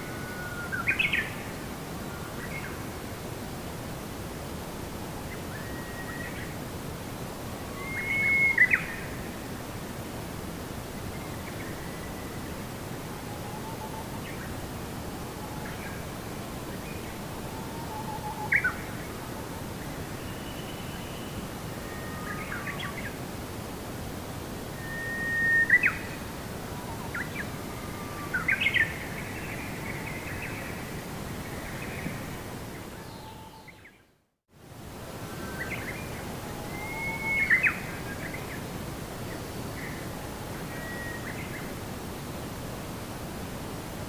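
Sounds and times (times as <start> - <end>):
steady background hiss: 0.0 - 44.0.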